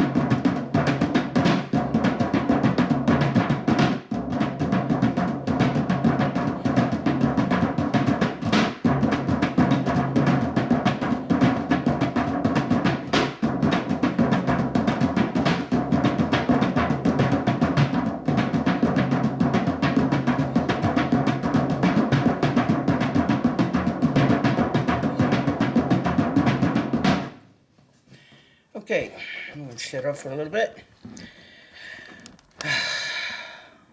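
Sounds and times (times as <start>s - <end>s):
fast continuous drumming: 0.0s - 27.4s.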